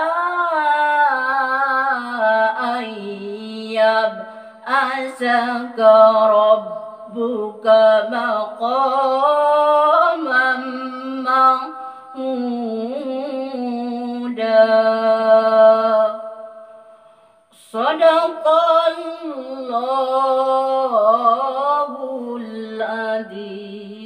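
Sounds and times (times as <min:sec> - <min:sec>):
woman reciting melodically: 0:00.0 - 0:16.6, 0:17.6 - 0:24.0.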